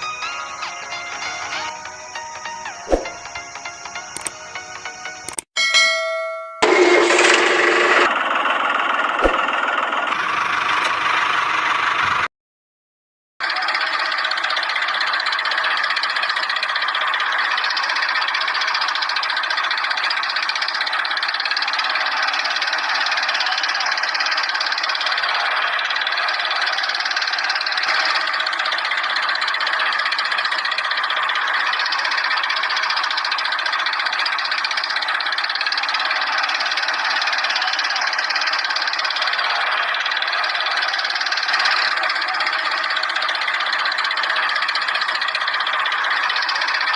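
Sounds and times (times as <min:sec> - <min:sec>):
small motor with knocking rattle: 0:06.5 - 0:12.3, 0:13.4 - 0:46.9.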